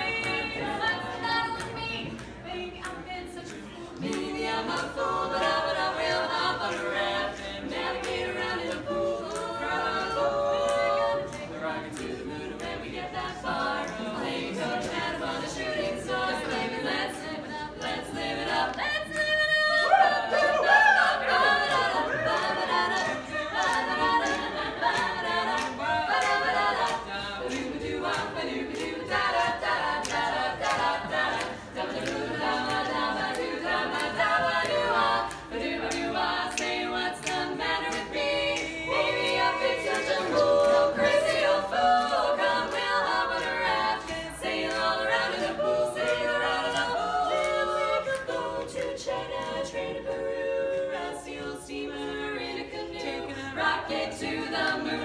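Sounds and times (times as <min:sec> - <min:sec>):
women singing in harmony: 0:00.0 - 0:55.0.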